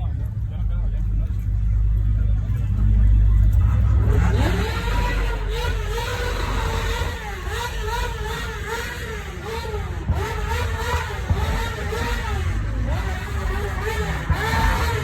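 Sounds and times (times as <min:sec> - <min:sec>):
car engine revving: 0:00.0 - 0:15.0
low exhaust rumble: 0:00.0 - 0:15.0.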